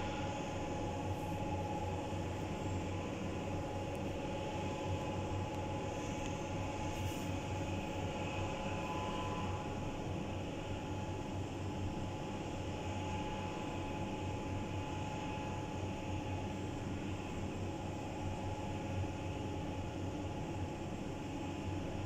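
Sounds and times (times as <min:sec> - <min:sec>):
machine hum and hiss: 0:00.0 - 0:22.0.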